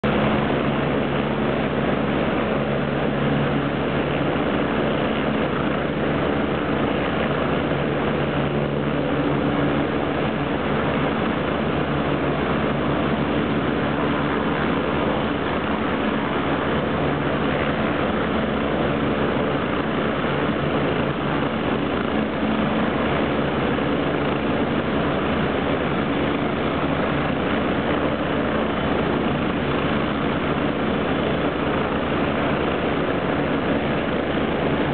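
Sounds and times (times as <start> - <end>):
helicopter engines and rotors running: 0.0 - 34.9.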